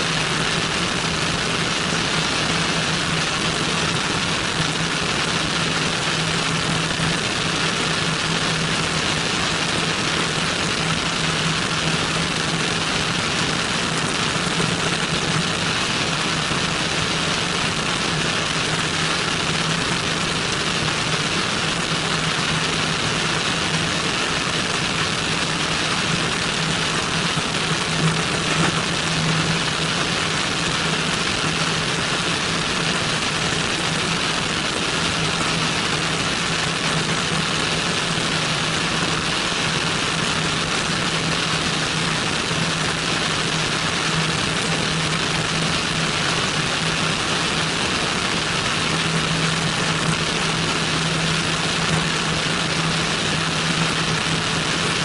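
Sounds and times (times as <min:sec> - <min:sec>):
airplane engine and propeller droning: 0:00.0 - 0:55.0.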